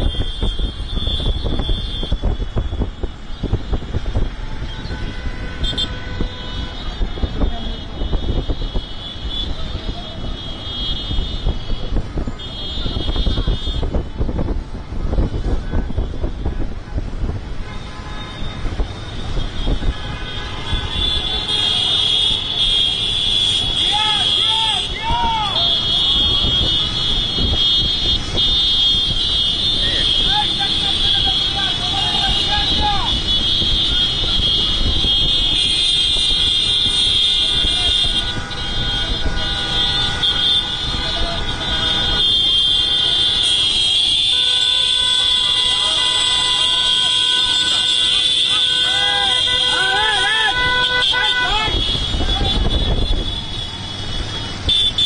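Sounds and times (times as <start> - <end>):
horns blaring: 0.0 - 14.2, 17.4 - 55.0
motorcycle engines rumbling: 0.0 - 55.0.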